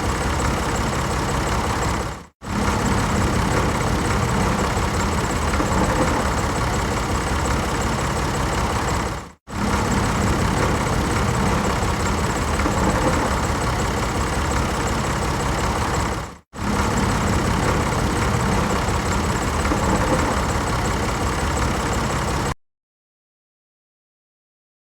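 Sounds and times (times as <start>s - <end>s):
engine running with noisy rumble: 0.0s - 22.6s.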